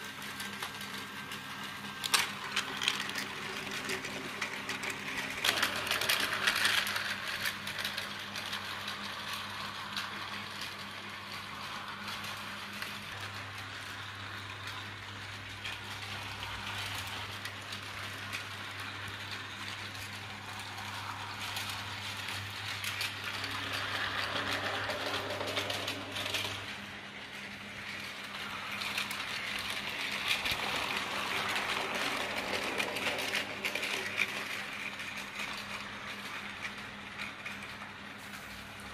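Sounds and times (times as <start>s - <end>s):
toy train whirring and rattling: 0.0s - 38.9s.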